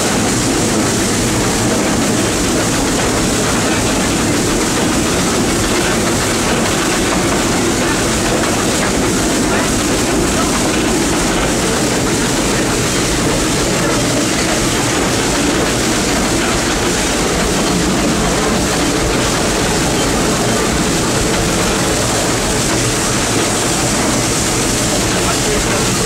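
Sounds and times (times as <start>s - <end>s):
steam locomotive running: 0.0s - 26.0s.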